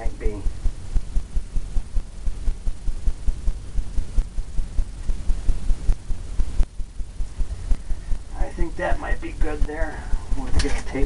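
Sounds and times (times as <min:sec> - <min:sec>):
low throbbing rumble: 0:00.0 - 0:11.0.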